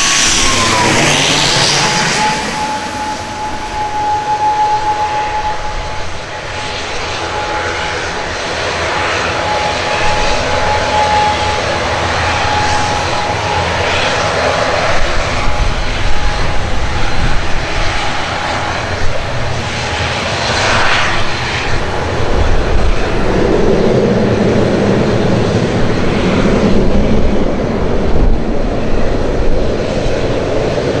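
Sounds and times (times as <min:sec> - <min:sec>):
turboprop engines rumbling: 0:00.0 - 0:31.0.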